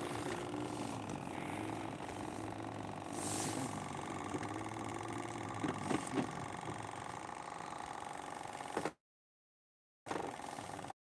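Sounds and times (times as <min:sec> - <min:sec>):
boat engine running: 0:00.0 - 0:08.9, 0:10.1 - 0:10.9.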